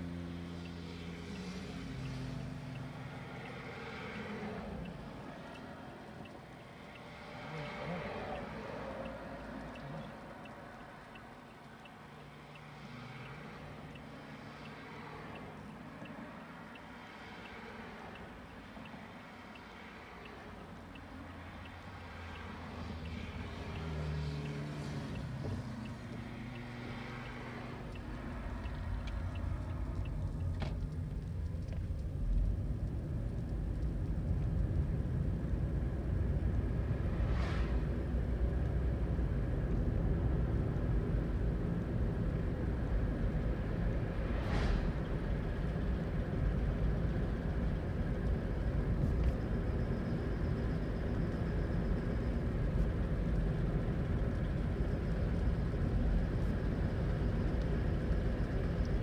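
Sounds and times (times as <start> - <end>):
road and tyre rumble: 0.0 - 59.0.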